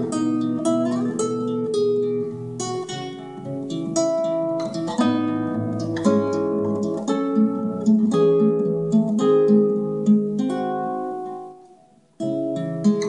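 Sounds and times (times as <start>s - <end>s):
classical guitar playing: 0.0s - 13.0s.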